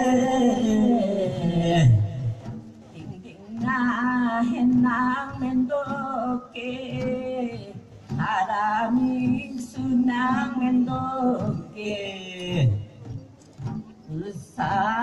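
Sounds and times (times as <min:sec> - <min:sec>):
woman singing: 0:00.0 - 0:02.2, 0:03.0 - 0:12.8, 0:14.1 - 0:15.0.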